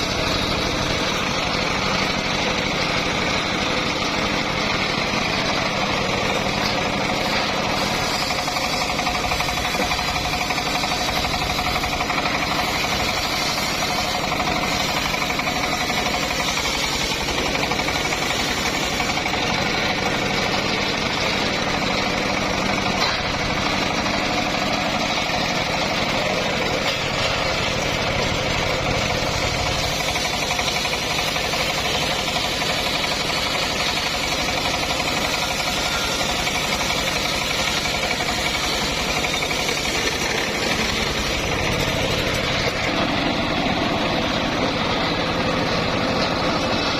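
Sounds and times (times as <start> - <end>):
sawmill engine running: 0.0 - 46.9.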